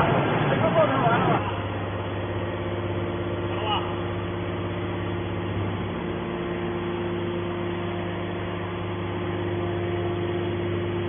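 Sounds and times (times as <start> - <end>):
motor and pump humming: 0.0 - 11.0.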